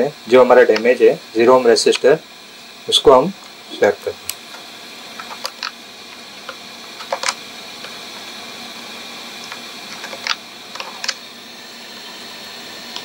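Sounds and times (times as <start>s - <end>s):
hot-air blower hissing: 0.0s - 13.0s.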